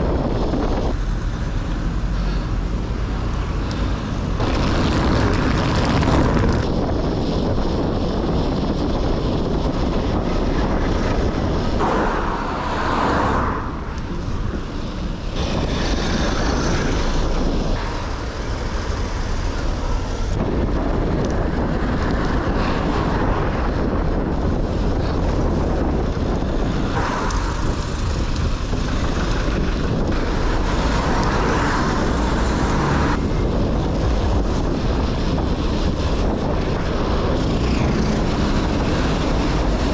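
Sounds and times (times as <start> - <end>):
car and truck traffic passing: 0.0 - 7.5, 9.6 - 39.9
wind rumble on microphone: 0.0 - 39.9.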